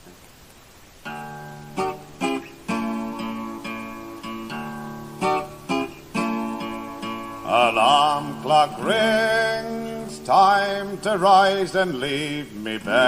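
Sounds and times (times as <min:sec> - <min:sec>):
faint hiss: 0:00.0 - 0:13.0
acoustic guitar strummed chords: 0:01.0 - 0:13.0.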